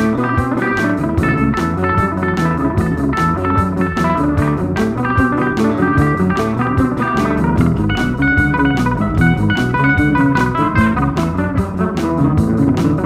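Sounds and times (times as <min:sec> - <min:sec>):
blues guitar music with drums: 0:00.0 - 0:13.0.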